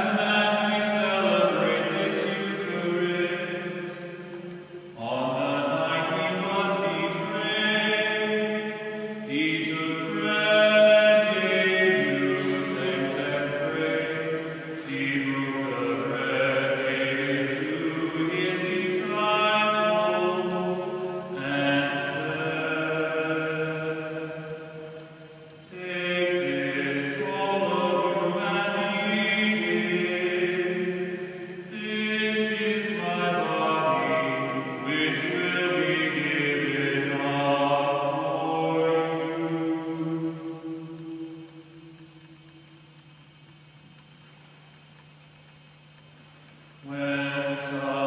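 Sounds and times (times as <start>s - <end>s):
group singing a slow hymn: 0.0s - 42.1s, 46.8s - 48.0s.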